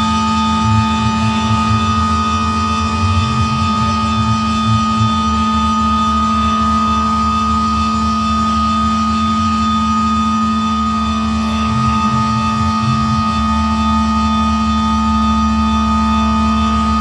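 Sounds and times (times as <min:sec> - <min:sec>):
flickering low rumble: 0:00.0 - 0:07.7, 0:10.7 - 0:17.0
electronic drone of steady tones: 0:00.0 - 0:17.0.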